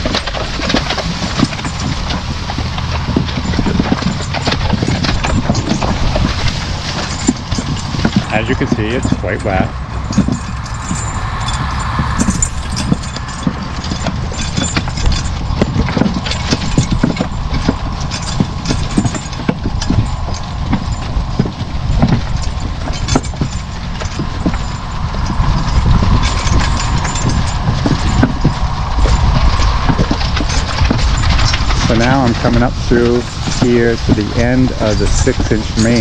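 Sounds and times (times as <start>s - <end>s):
horse hooves on wet ground: 0.0s - 36.0s
steady mechanical hum: 0.0s - 36.0s.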